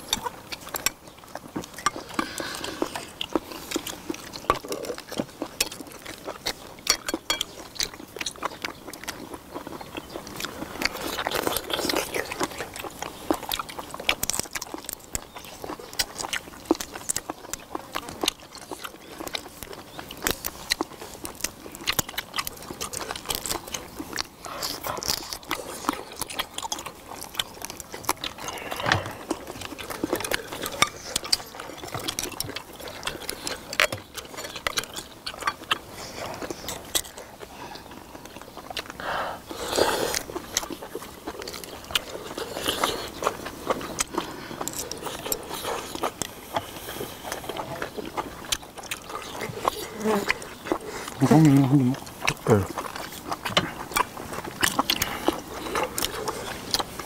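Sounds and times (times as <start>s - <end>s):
people chewing and smacking: 0.0s - 57.0s.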